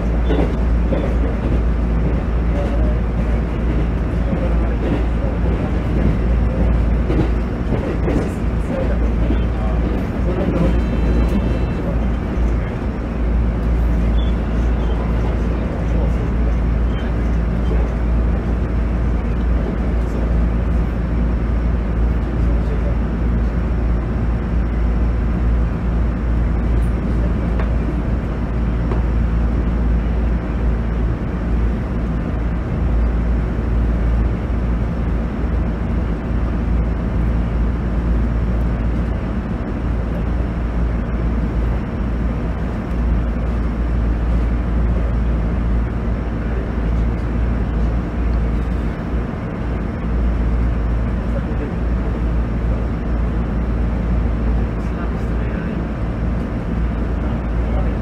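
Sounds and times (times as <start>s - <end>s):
diesel engine drone: 0.0s - 58.0s
train wheels rumbling on rails: 0.0s - 58.0s.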